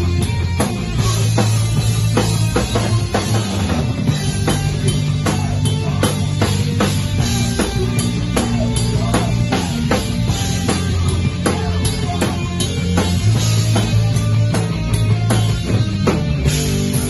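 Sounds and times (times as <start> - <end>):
drum kit beat: 0.0 - 17.0
electric guitar: 0.0 - 17.0
live rock band playing: 0.0 - 17.0.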